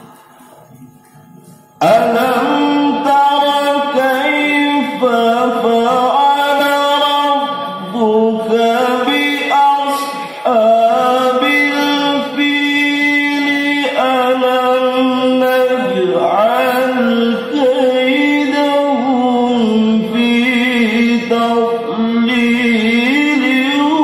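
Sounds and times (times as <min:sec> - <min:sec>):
man reciting melodically: 0:01.6 - 0:24.0.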